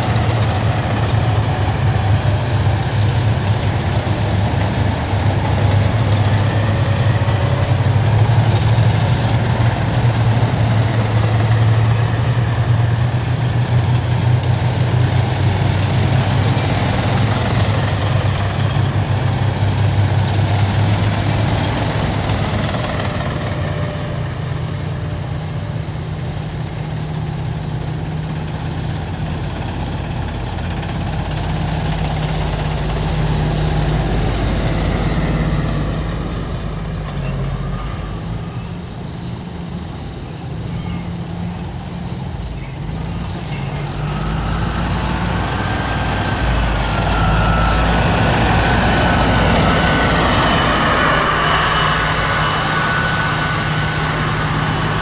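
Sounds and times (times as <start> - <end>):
heavy vehicle engines droning: 0.0 - 55.0
steady high whine: 0.0 - 55.0.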